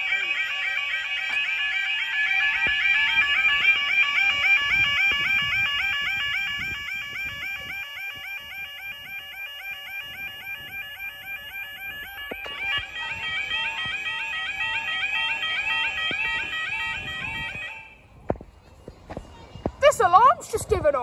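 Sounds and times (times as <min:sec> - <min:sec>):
level crossing warbling alarm: 0:00.0 - 0:18.0.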